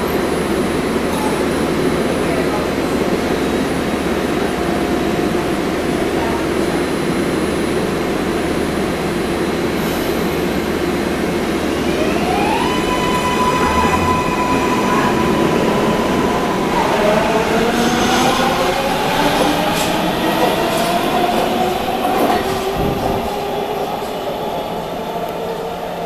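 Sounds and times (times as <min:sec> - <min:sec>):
train rumble and hiss: 0:00.0 - 0:26.0.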